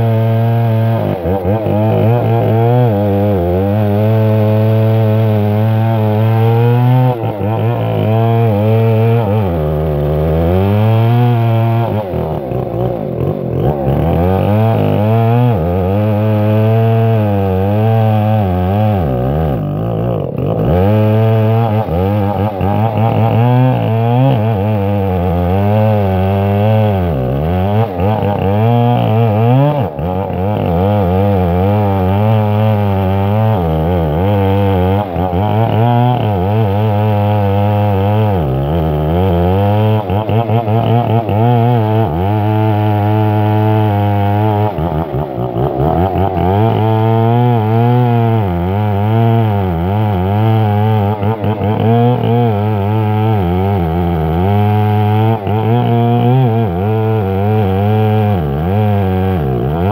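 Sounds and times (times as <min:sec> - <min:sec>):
chainsaw cutting through timber: 0:00.0 - 0:59.9.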